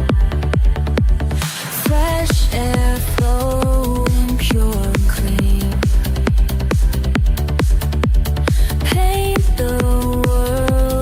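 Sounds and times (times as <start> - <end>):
four-on-the-floor kick drum: 0.0 - 11.0.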